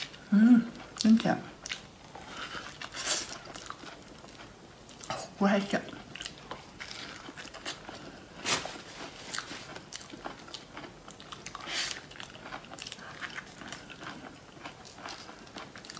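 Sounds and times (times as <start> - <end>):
person chewing soft fruit: 0.0 - 15.9.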